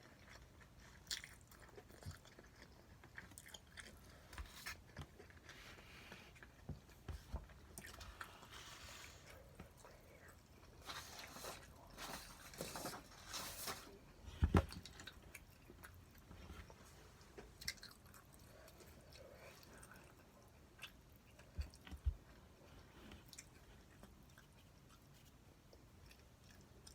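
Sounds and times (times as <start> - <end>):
person chewing food: 0.0 - 12.9, 14.7 - 26.9.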